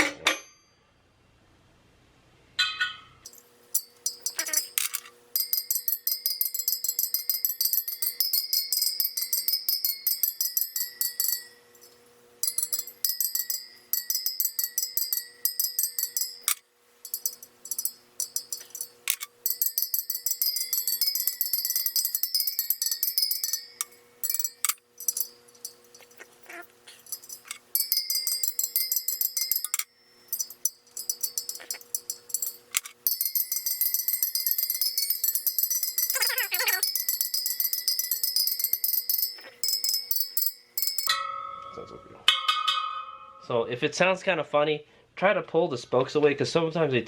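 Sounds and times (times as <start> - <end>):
wheel spokes pinging: 2.6 - 43.5.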